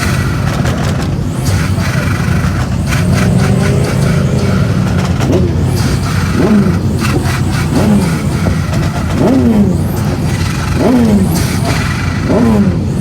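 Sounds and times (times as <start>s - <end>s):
engine revving: 0.0s - 13.0s
turbo flutter: 1.3s - 13.0s.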